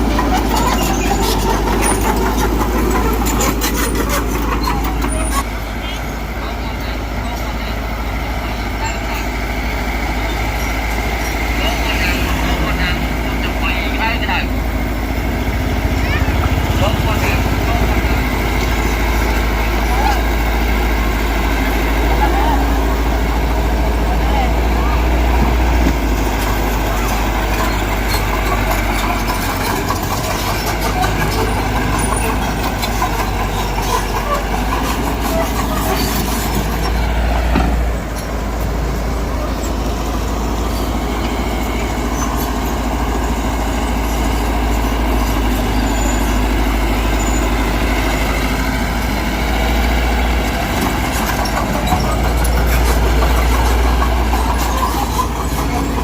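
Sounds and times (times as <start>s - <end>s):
diesel engine drone: 0.0s - 56.0s
machinery clanks: 0.0s - 56.0s.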